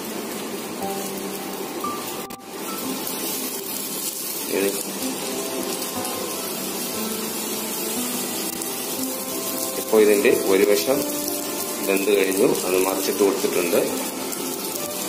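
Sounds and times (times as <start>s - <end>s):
oil sizzling: 0.0s - 15.0s
faint background music: 0.8s - 15.0s.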